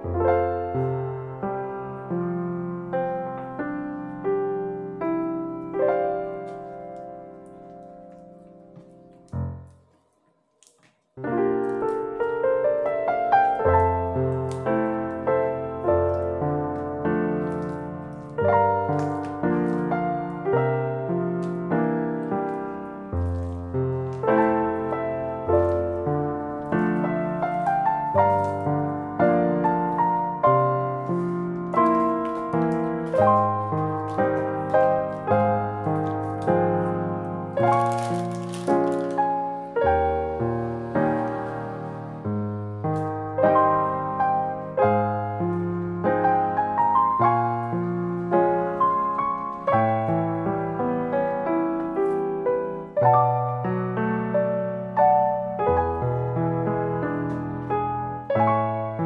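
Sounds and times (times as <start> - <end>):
gentle piano music: 0.0 - 59.0.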